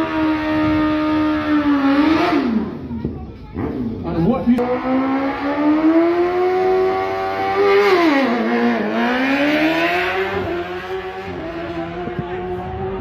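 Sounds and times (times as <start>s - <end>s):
racing engine revving: 0.0s - 2.8s, 3.6s - 13.0s.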